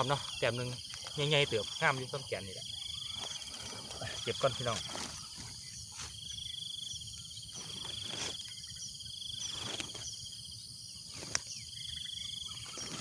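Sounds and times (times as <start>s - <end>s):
high insect chirps: 0.0s - 13.0s
insects trilling: 0.0s - 13.0s.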